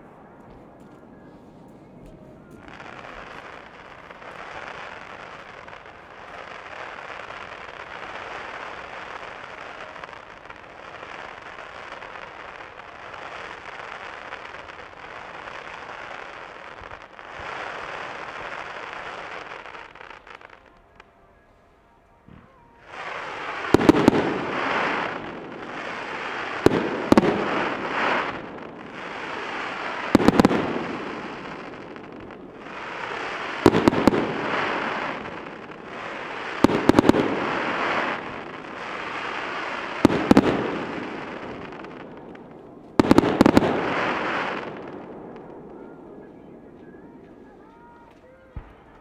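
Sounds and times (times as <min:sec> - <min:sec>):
fireworks bursting: 0:00.0 - 0:49.0
fireworks hiss: 0:01.4 - 0:20.6, 0:22.4 - 0:45.8.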